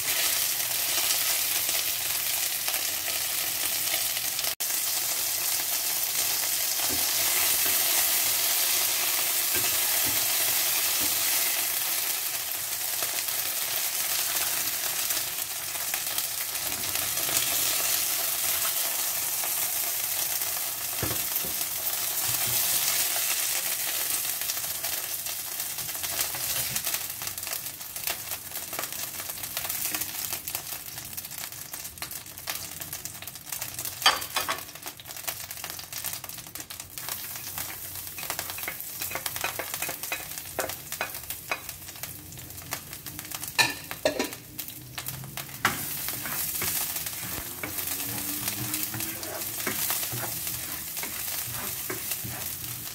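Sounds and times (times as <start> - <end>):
chicken frying in oil: 0.0 - 52.9
garlic sizzling while stirred: 0.0 - 52.9.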